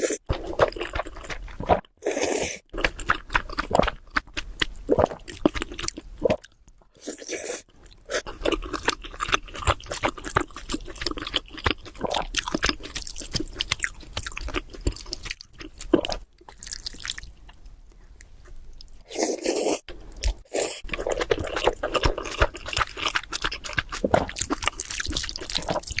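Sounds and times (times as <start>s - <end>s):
person chewing noodles: 0.0s - 26.0s.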